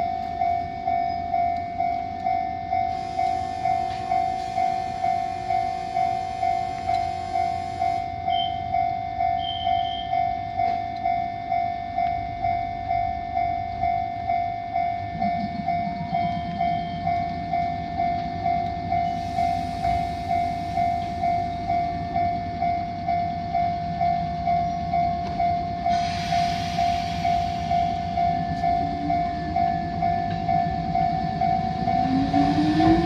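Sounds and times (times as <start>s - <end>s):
electric train humming: 0.0s - 33.0s
level-crossing warning bell: 0.0s - 33.0s.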